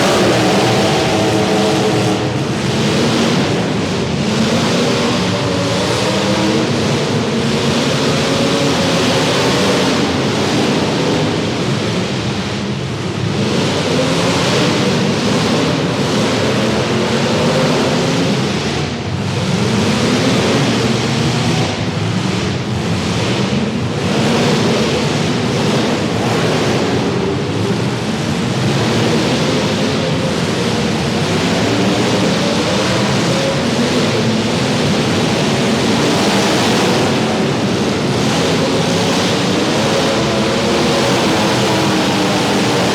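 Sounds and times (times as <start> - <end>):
car engines revving: 0.0 - 42.9
steady wash of noise: 0.0 - 42.9.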